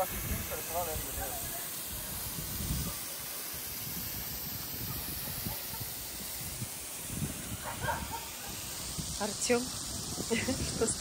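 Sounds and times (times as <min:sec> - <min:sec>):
waterfall spraying onto stone: 0:00.0 - 0:11.0.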